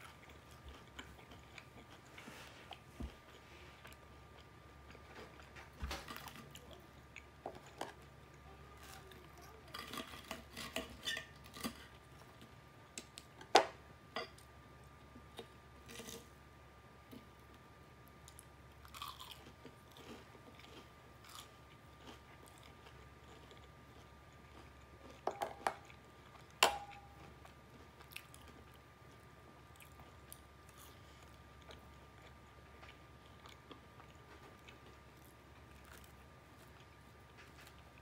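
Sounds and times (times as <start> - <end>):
chewing and crunching food: 0.0 - 13.5, 14.4 - 16.4, 17.0 - 38.0.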